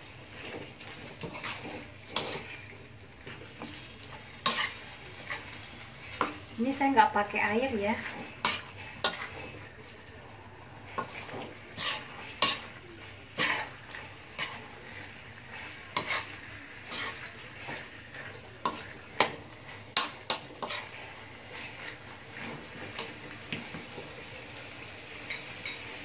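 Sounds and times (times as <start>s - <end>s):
metal spatula scraping a wok: 0.0s - 9.9s, 10.8s - 23.4s
chicken sizzling: 0.0s - 26.0s.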